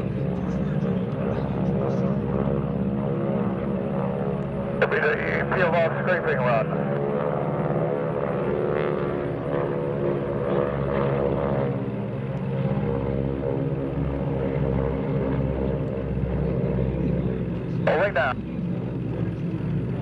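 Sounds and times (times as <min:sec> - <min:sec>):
propeller planes droning past: 0:00.0 - 0:20.0.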